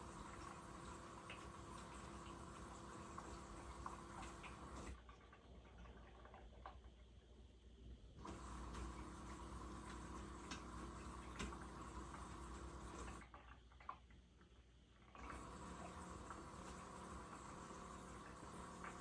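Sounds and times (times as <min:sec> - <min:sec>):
washing machine hum: 0:00.0 - 0:19.0.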